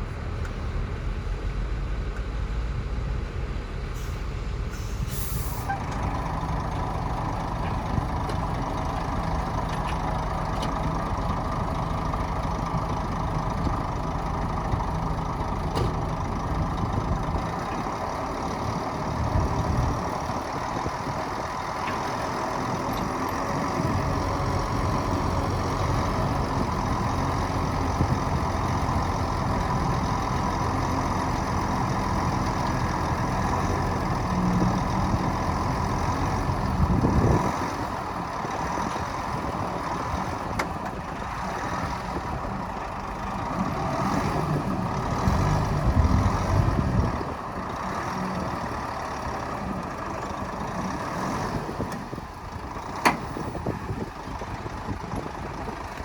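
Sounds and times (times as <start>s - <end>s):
diesel machinery engines droning: 0.0s - 56.0s.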